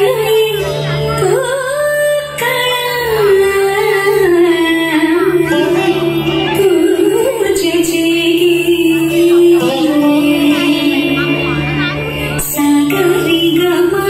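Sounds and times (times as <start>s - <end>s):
woman singing slow melody: 0.0s - 14.0s.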